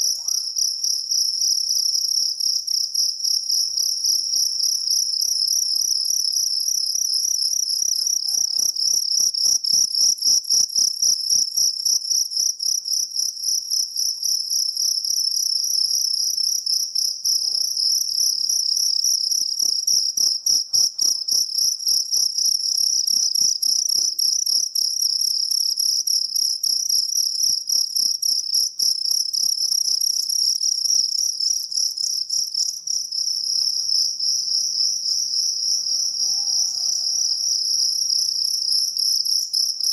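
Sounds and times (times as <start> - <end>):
field cricket chirping: 0.0 - 39.9.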